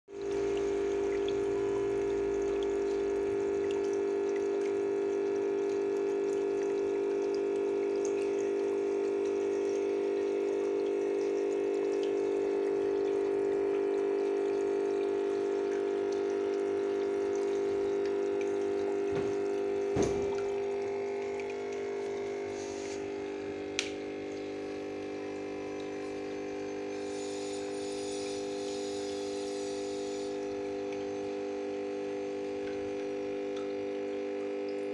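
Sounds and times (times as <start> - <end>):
water pump humming: 0.1 - 34.9
water running: 0.2 - 34.9.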